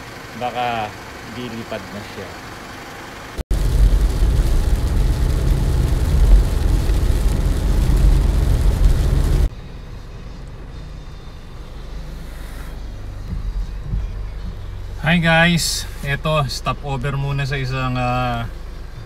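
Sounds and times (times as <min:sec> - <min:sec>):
car interior road rumble: 0:00.0 - 0:19.0.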